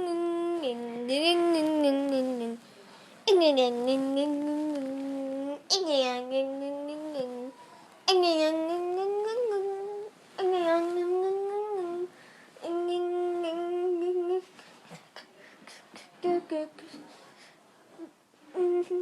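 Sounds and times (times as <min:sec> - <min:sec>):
person vocalising held notes: 0:00.0 - 0:02.6, 0:03.3 - 0:17.0, 0:18.0 - 0:19.0.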